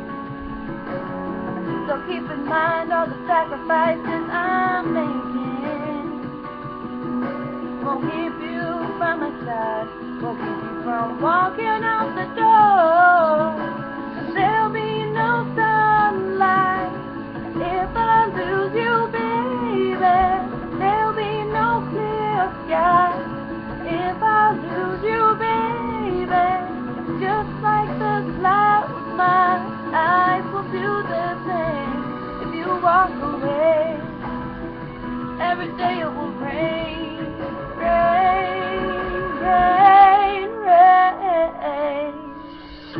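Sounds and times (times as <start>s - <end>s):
instrumental accompaniment: 0.0s - 42.9s
woman singing a pop ballad: 0.0s - 42.9s.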